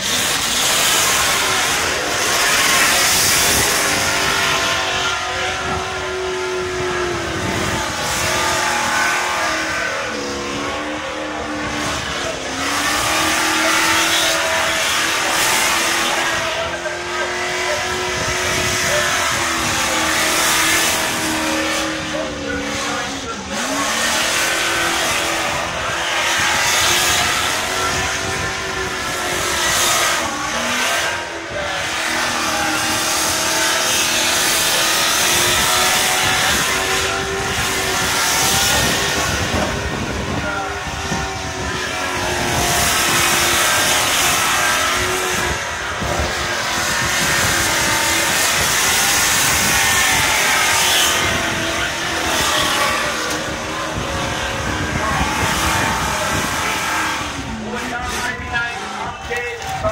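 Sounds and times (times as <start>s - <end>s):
car engine revving: 0.0s - 59.9s
tyres spinning on asphalt: 0.0s - 59.9s.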